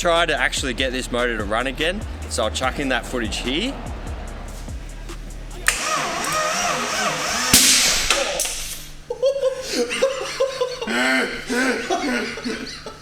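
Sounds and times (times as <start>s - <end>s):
people laughing: 0.0s - 7.5s, 9.0s - 13.0s.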